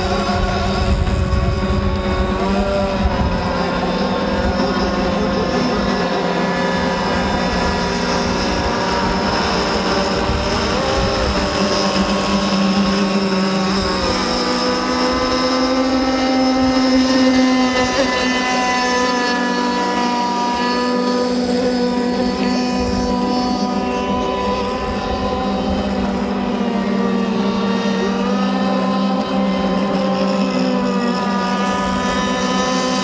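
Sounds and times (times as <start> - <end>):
high-pitched boat engine buzz: 0.0 - 33.0.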